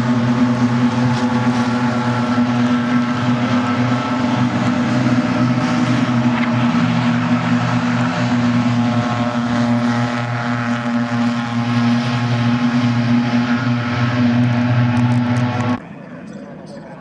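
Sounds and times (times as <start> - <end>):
racing car engines droning: 0.0 - 17.0.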